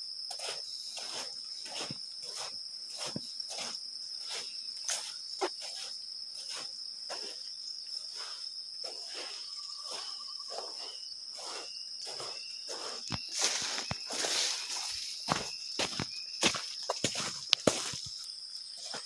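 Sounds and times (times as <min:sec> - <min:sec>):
high-pitched insect drone: 0:00.0 - 0:19.0
footsteps on muddy path: 0:00.3 - 0:19.0.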